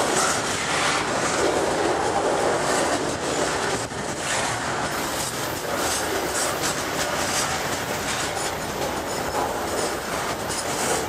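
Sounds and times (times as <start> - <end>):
freight train wheels rumbling: 0.0 - 11.0
wheels clickety-clack: 0.0 - 11.0.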